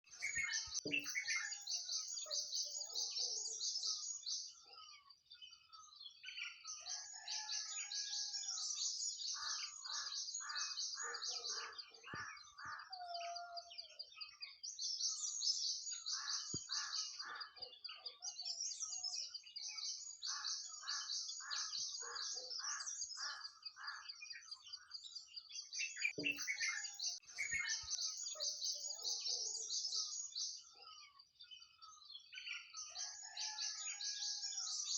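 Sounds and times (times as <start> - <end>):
nightingale singing: 0.0 - 34.9.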